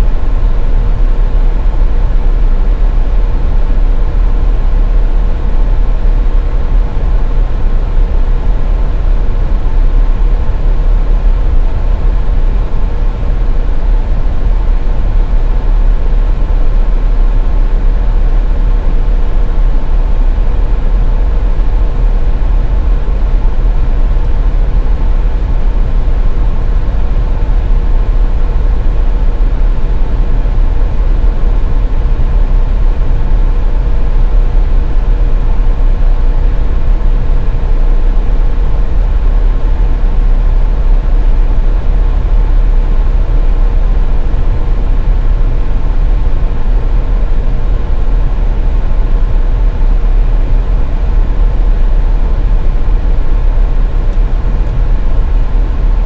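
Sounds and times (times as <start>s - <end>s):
car tyres and engine rumble: 0.0s - 56.0s
faint constant hum: 0.0s - 56.0s.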